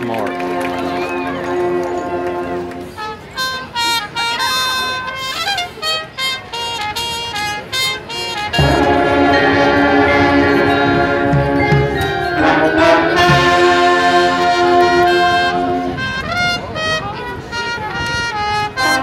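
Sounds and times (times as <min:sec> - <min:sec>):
held brass chords: 0:00.0 - 0:19.0
marching band playing: 0:00.0 - 0:19.0.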